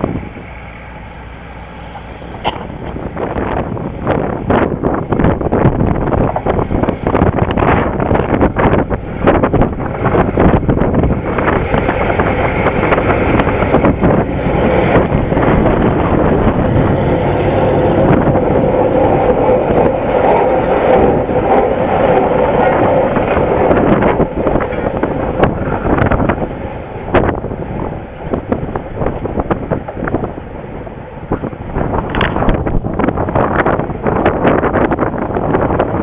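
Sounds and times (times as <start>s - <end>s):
locomotive rumbling along track: 0.0s - 36.0s.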